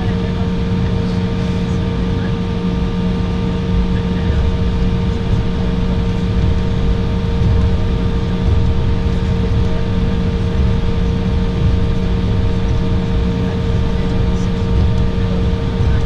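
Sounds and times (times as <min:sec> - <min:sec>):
airplane cabin rumble: 0:00.0 - 0:16.0
jet engine hum: 0:00.0 - 0:16.0.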